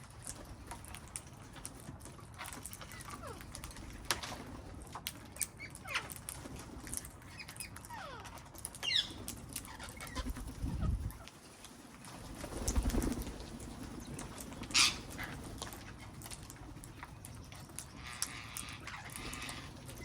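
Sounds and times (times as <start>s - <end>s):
birds calling and chirping: 0.0s - 20.0s.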